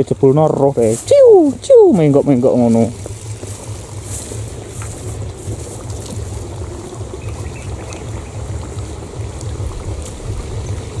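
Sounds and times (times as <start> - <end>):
outdoor hiss: 0.0 - 11.0
wind buffeting microphone: 0.0 - 11.0.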